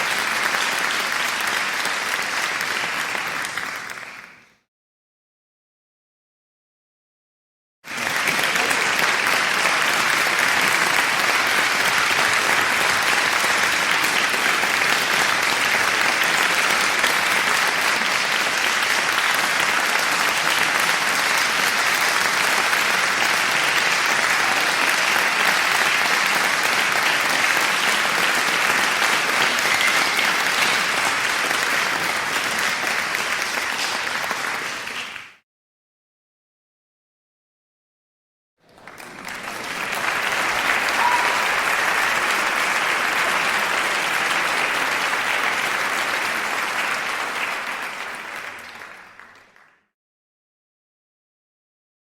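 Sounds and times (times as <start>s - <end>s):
audience applause: 0.0s - 4.6s, 7.9s - 35.4s, 38.6s - 49.8s.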